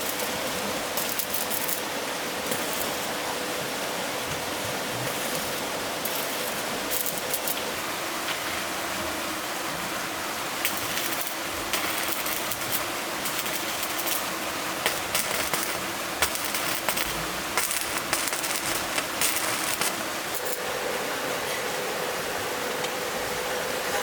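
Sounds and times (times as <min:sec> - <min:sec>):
flowing water rushing: 0:00.0 - 0:24.0.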